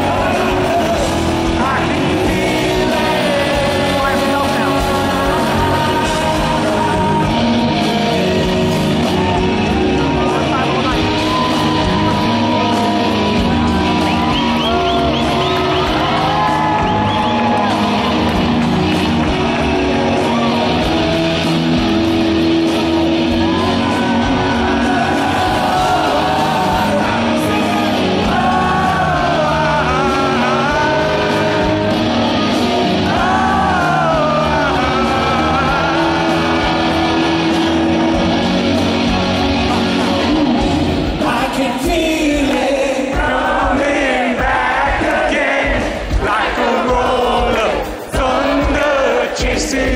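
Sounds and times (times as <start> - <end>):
man singing: 0.0 - 16.6, 24.2 - 38.3, 39.6 - 49.9
live rock band playing: 0.0 - 49.9.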